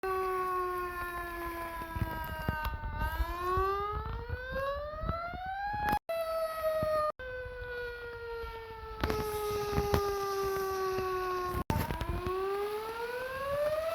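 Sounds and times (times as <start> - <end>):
fire engine siren wailing: 0.0 - 13.9.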